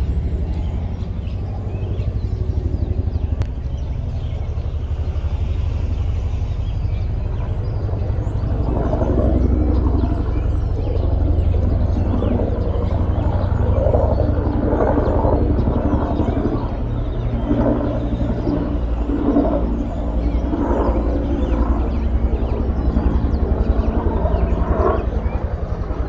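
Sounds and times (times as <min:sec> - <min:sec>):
helicopter rotor beating: 0:00.0 - 0:26.0.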